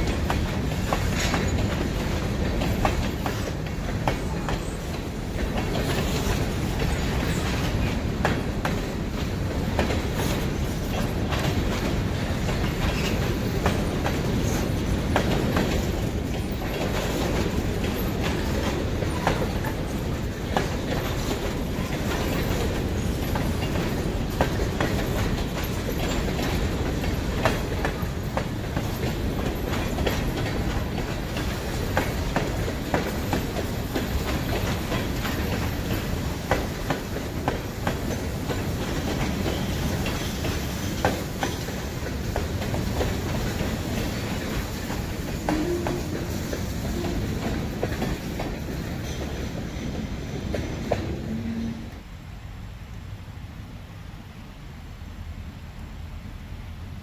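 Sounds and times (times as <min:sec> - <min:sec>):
wheels clicking over rails: 0:00.0 - 0:49.6
freight train rumble: 0:00.0 - 0:57.0.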